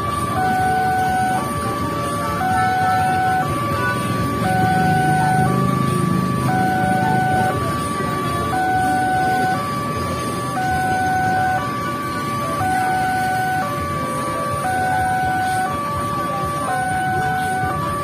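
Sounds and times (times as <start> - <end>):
two-note crossing alarm chime: 0.0 - 18.0.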